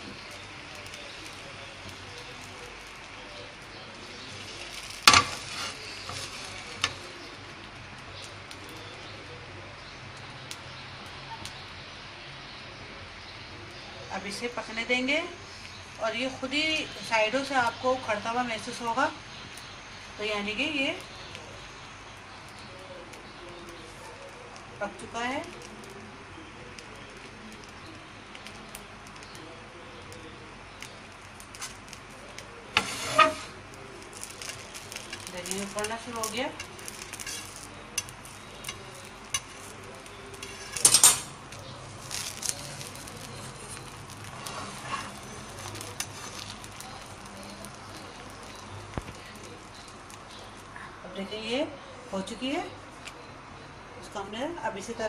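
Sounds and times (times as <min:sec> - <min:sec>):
batter hissing and crackling on griddle: 0:00.0 - 0:51.1.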